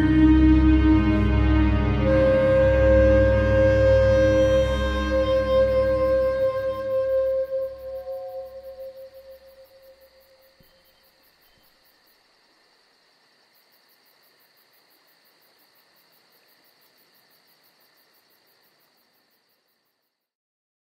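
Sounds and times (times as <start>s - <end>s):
faint steady hiss: 0.0s - 20.3s.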